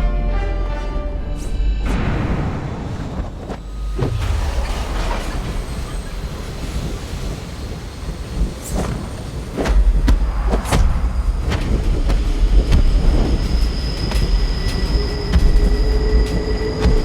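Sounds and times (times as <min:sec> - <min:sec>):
train rumbling: 0:00.0 - 0:17.0
high-pitched squeal: 0:01.2 - 0:09.5, 0:10.4 - 0:17.0.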